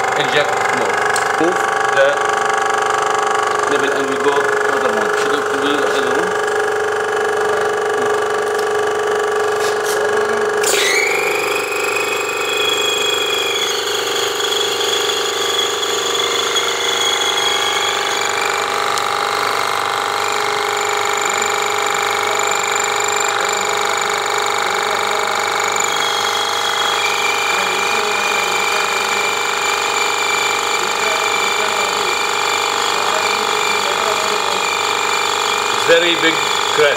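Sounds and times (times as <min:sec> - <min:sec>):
pump mechanical whine: 0:00.0 - 0:36.9.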